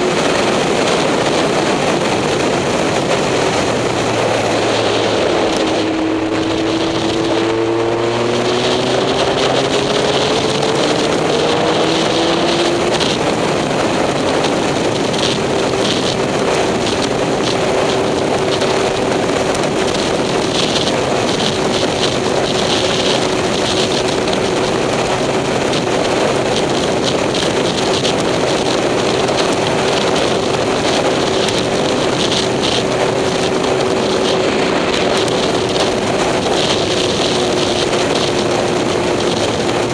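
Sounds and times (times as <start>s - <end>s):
vehicle engine accelerating: 0.0s - 39.9s
wind on microphone: 0.0s - 39.9s.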